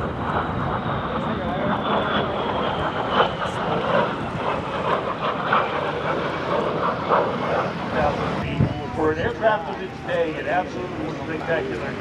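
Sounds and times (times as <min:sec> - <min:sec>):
jet engine rush: 0:00.0 - 0:12.0.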